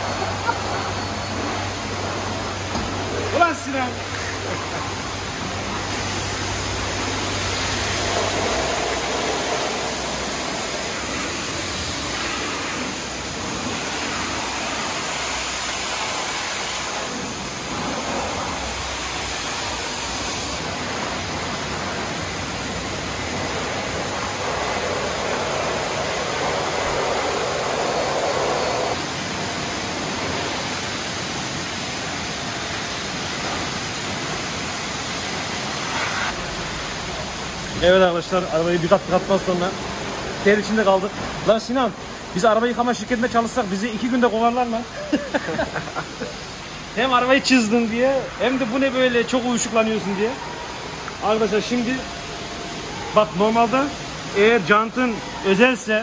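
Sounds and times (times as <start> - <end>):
pressure washer spraying car: 0.0 - 56.0.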